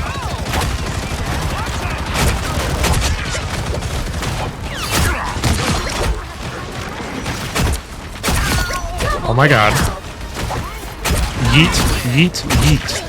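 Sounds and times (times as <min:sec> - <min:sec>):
rapid gunfire: 0:00.0 - 0:13.0.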